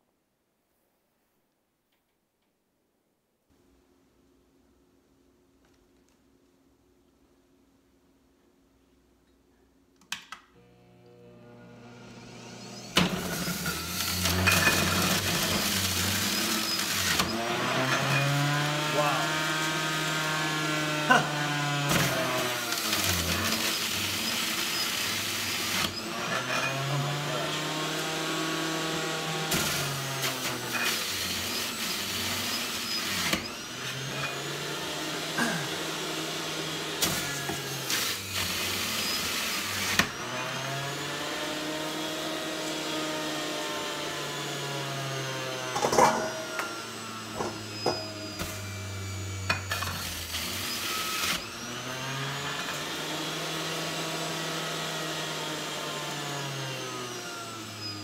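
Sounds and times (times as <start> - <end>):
juicer motor whirring: 10.6 - 58.0.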